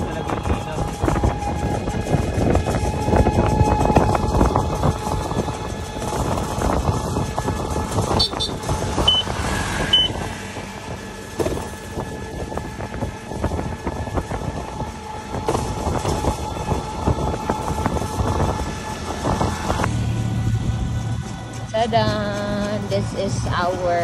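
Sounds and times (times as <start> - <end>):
road noise: 0.0 - 24.0
wind buffeting: 0.0 - 24.0.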